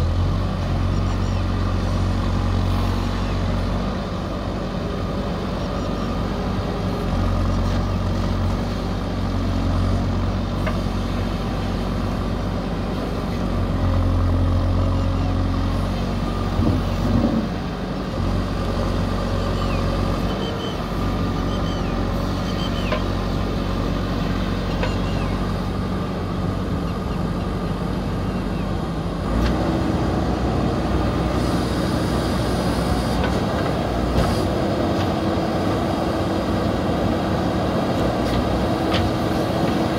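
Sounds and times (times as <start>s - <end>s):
backhoe diesel engine under load: 0.0s - 39.9s.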